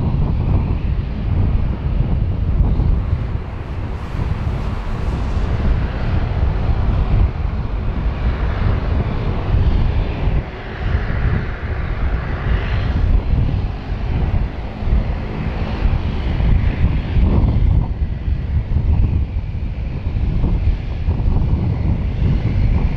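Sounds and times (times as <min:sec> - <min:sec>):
jet airliner taking off: 0:00.0 - 0:22.9.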